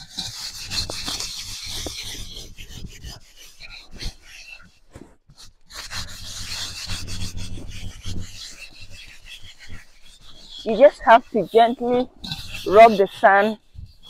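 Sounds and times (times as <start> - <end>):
sand scrubbing metal pot: 0.0 - 4.8, 5.4 - 14.0.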